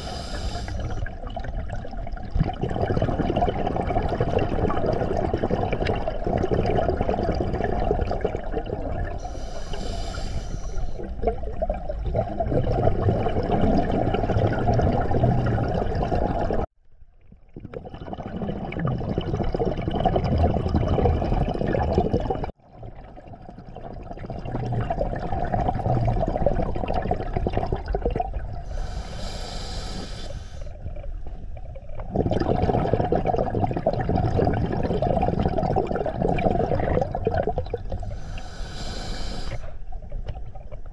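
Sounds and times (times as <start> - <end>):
underwater rumble: 0.0 - 29.4, 30.4 - 40.9.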